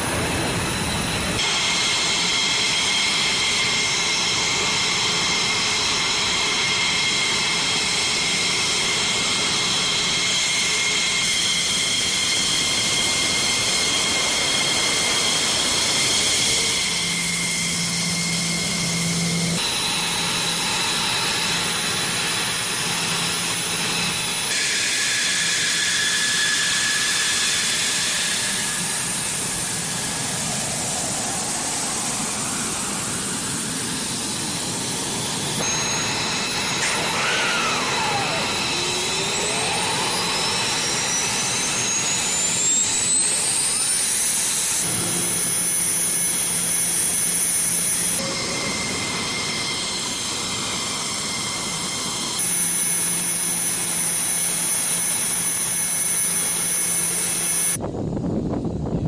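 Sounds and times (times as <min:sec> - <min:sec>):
fighter jet engines whining: 0:00.0 - 0:59.0.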